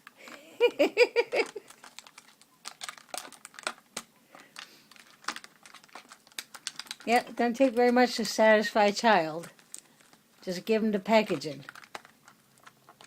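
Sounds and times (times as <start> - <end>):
beak crinkling plastic bottle: 1.2 - 13.0.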